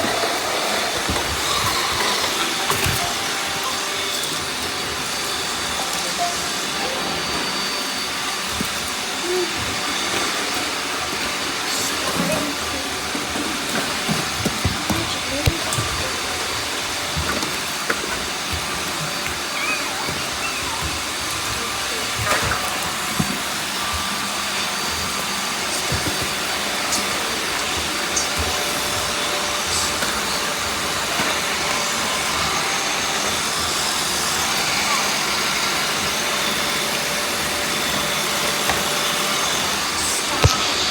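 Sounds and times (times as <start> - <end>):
robot vacuums whirring: 0.0 - 40.9.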